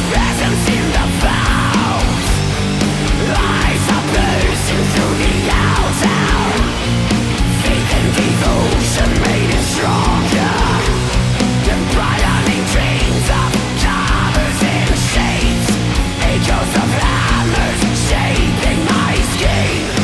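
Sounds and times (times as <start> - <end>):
black metal music: 0.0 - 20.0.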